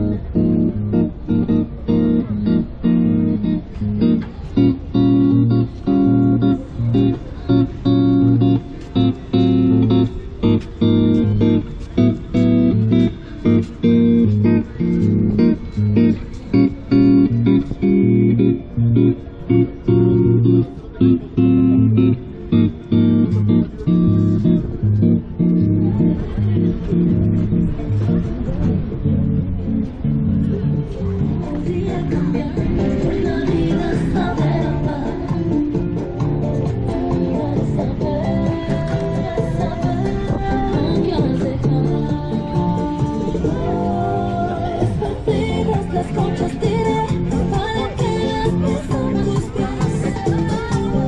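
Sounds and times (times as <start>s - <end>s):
strummed acoustic guitar chords: 0.0s - 51.0s.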